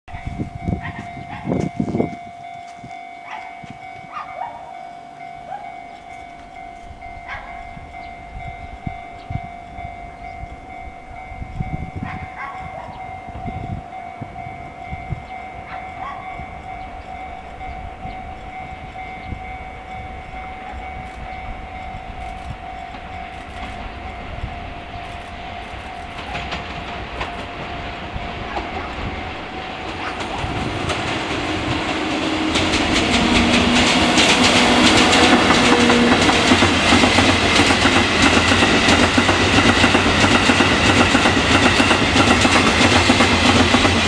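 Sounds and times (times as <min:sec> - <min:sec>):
electric locomotive rumbling: 0:00.1 - 0:44.0
steady high tone: 0:00.1 - 0:44.0.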